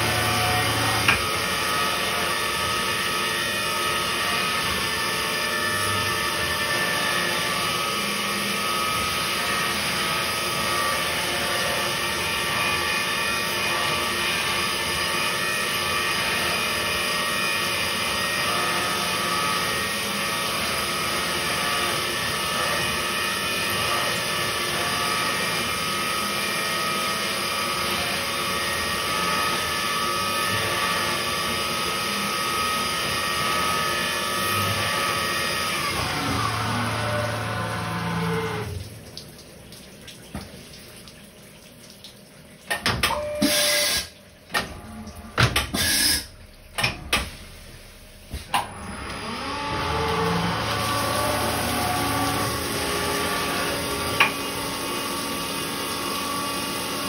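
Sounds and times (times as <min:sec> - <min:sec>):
milling machine whine: 0:00.0 - 0:39.1, 0:42.8 - 0:57.0.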